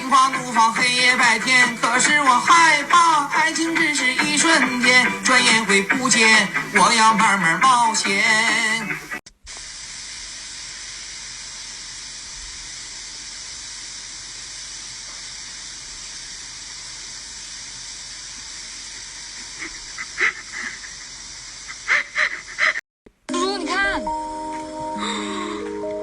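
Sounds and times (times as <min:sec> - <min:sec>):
steady hiss: 0:00.0 - 0:22.8.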